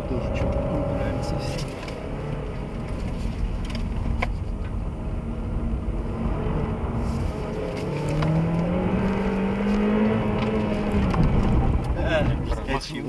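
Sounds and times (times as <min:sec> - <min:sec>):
car engine running: 0:00.0 - 0:13.0
road and tyre rumble: 0:00.0 - 0:13.0.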